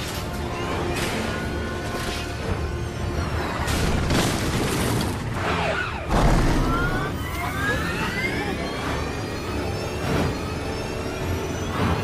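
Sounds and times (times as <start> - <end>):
film score music: 0.0 - 12.0.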